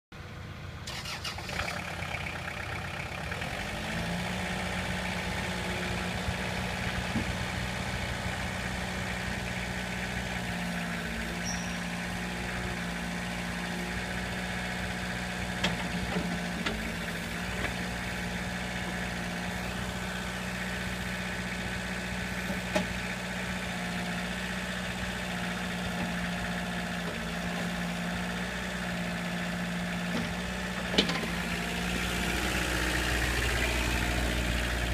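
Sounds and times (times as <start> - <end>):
excavator diesel engine idling: 0.2 - 34.9.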